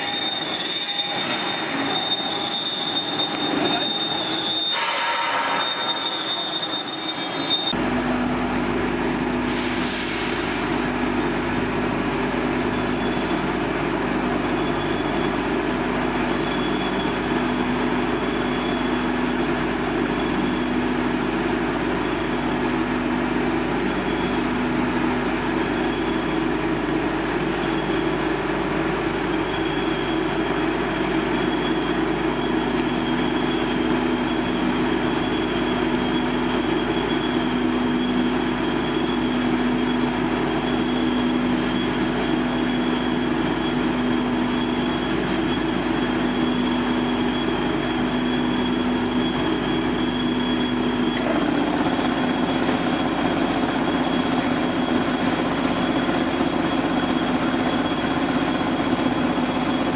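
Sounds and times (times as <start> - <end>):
mixer machine humming with whine: 0.0 - 59.9.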